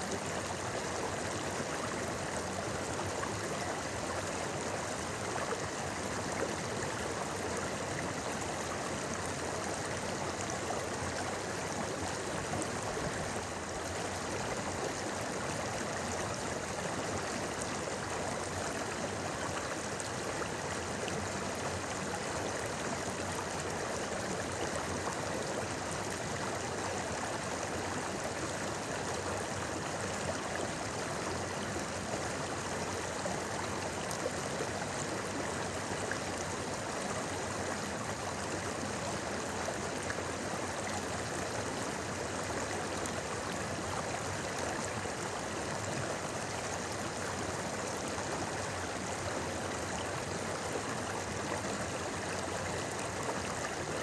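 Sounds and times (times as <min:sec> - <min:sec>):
shallow river over stones: 0:00.0 - 0:54.0.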